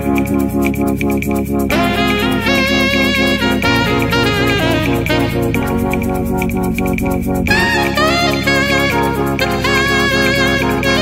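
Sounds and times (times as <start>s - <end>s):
background music with steady beat: 0.0s - 11.0s
lead melody: 0.0s - 11.0s.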